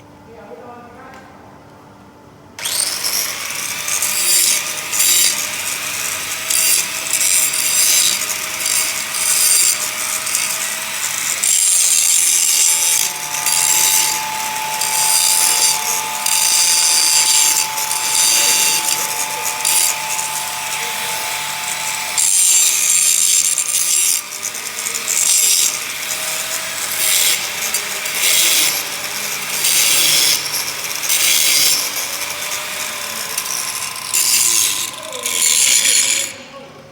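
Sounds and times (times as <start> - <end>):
arc welding crackling hiss: 2.7 - 36.2.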